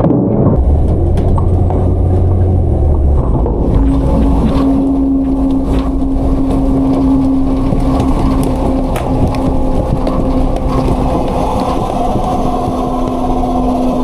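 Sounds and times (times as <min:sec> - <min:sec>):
droning hum: 0:00.5 - 0:14.0
garbage truck diesel rumble: 0:00.6 - 0:14.0.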